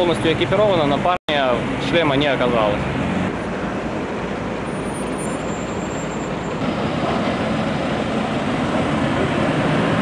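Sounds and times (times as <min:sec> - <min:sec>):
vehicles passing on street: 0:00.0 - 0:10.0.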